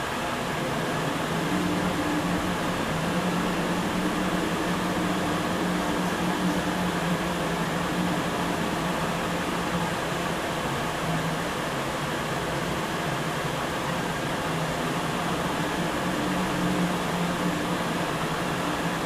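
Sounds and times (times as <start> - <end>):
rushing noise: 0.0 - 19.0
ship mechanical hum: 0.0 - 19.0.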